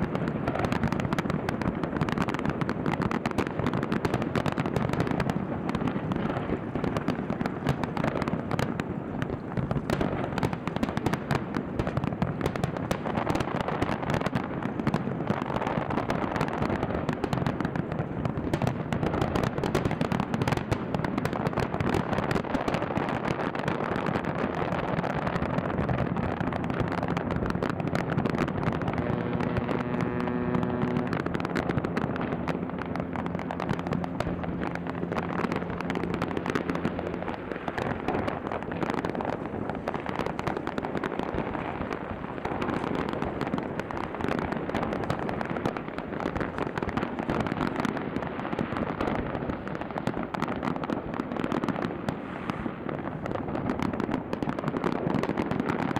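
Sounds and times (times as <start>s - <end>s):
fireworks crackling and banging: 0.0s - 55.9s.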